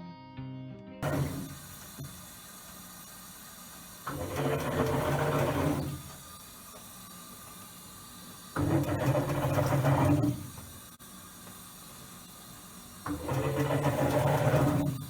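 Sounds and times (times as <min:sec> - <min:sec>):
washing machine humming: 0:01.0 - 0:15.0.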